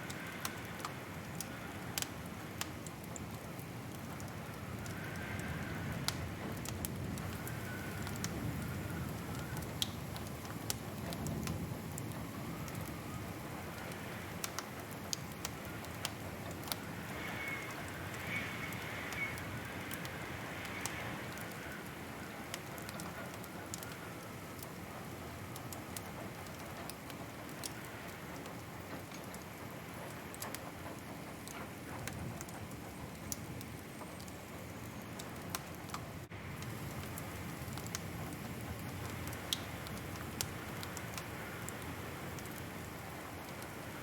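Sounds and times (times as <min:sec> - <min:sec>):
soft steady hiss: 0:00.0 - 0:44.0
wood fire crackling: 0:00.0 - 0:44.0.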